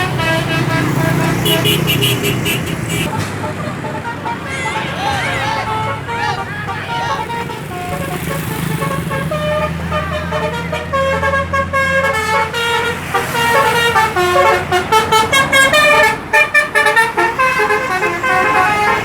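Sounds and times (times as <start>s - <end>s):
musical air horn tune: 0.0s - 19.0s.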